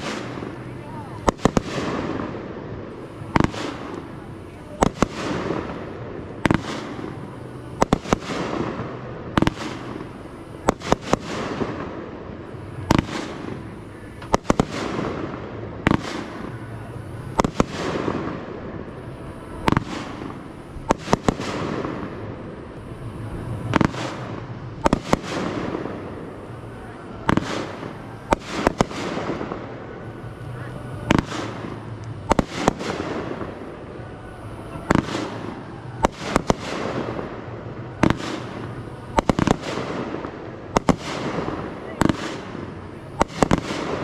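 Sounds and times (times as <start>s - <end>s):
firework bangs: 0.0s - 44.0s
fireworks crackling: 0.0s - 44.0s.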